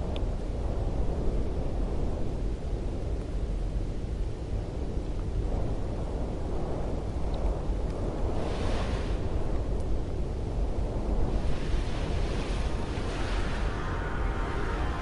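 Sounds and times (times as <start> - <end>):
low rushing wind rumble: 0.0 - 15.0.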